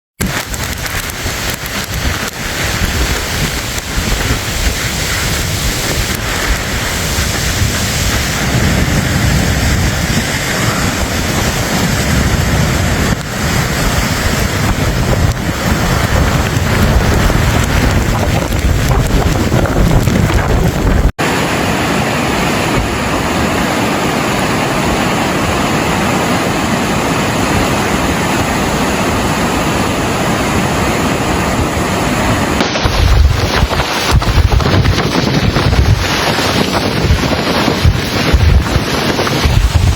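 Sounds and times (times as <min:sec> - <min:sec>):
storm wind and water rushing: 0:00.2 - 0:39.9
wind buffeting microphone: 0:00.2 - 0:39.9.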